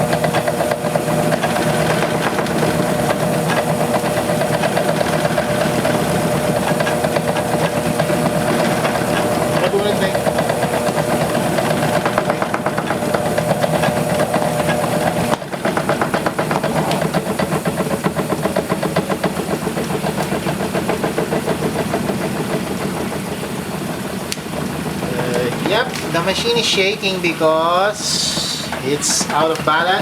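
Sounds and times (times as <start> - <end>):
washing machine rattling: 0.0 - 30.0.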